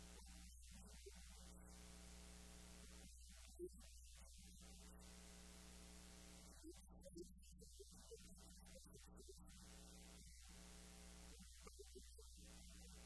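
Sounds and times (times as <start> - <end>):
low electrical hum: 0.0 - 3.1, 4.5 - 8.1, 8.8 - 13.0.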